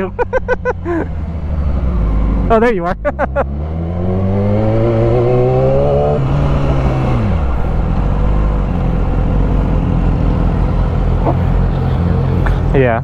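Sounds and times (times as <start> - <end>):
car engine accelerating: 0.0 - 13.0
low road rumble: 0.0 - 13.0.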